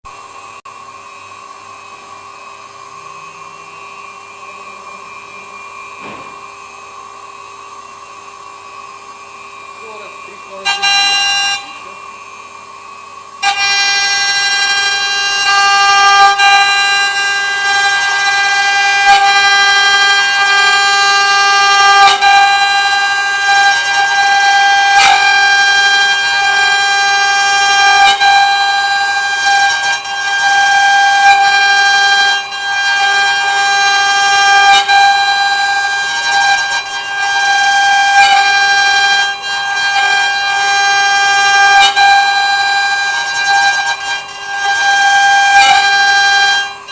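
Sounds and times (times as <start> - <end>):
router spindle whining: 0.1 - 46.9.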